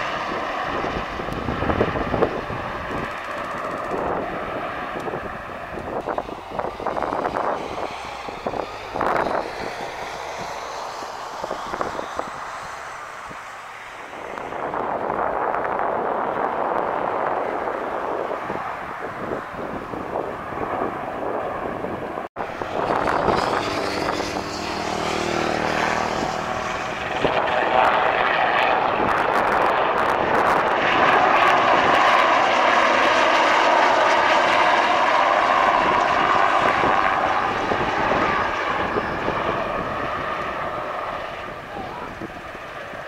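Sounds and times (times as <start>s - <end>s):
helicopter flying past: 0.0s - 43.0s.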